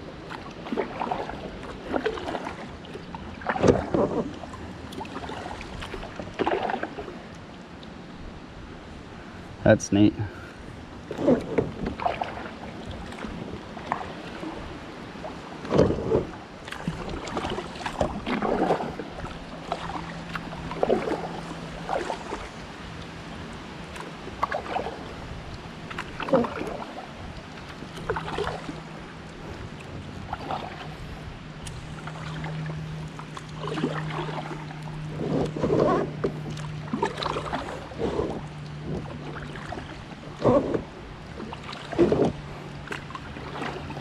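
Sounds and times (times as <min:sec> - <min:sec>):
kayak paddle splashing: 0:00.0 - 0:09.6, 0:10.3 - 0:44.0.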